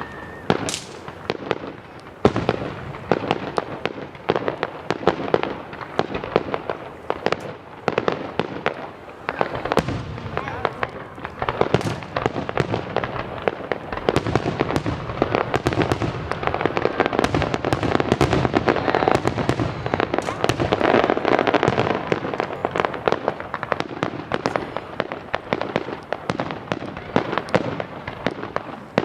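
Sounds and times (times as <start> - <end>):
fireworks popping and banging: 0.0 - 29.0.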